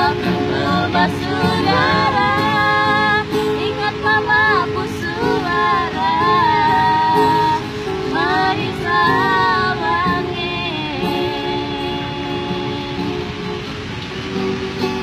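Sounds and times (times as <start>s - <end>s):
woman singing: 0.0s - 13.4s
strummed guitar: 0.0s - 15.0s.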